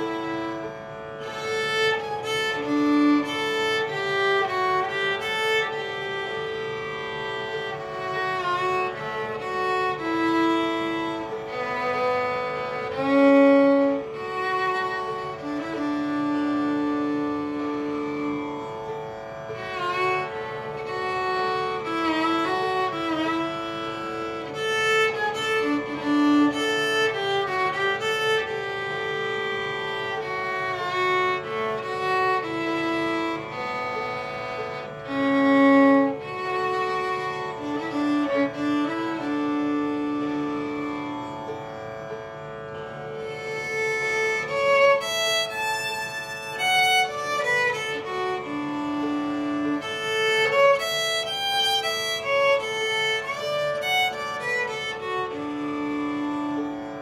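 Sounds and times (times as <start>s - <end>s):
bowed string melody: 0.0s - 57.0s.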